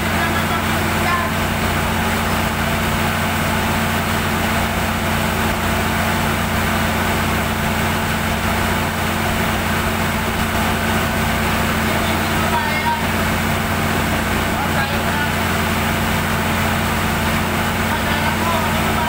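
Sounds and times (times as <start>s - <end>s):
diesel generator humming: 0.0s - 19.0s.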